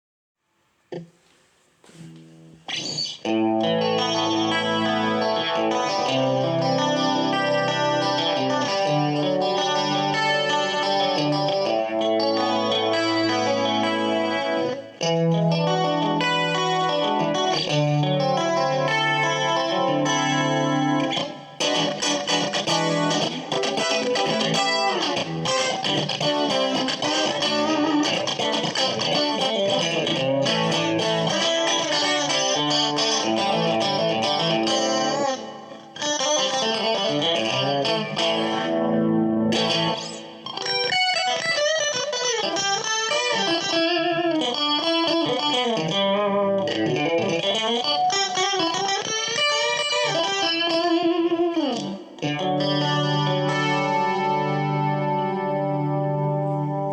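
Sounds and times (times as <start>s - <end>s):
clean electric guitar playing: 1.9s - 56.9s.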